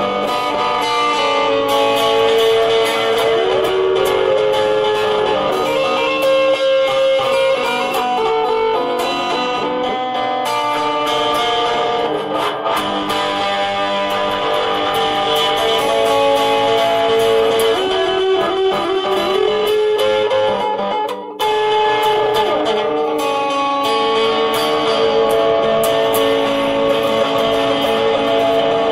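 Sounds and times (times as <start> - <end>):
electric guitar melody: 0.0 - 28.9.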